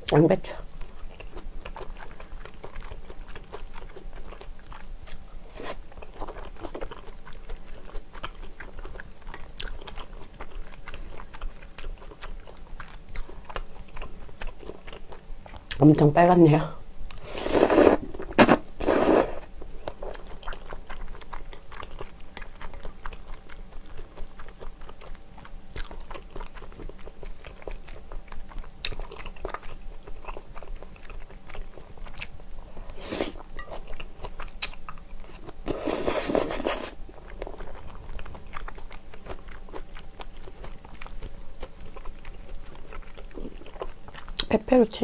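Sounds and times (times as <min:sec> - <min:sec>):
slurping and chewing food: 0:00.8 - 0:15.8, 0:17.1 - 0:44.5.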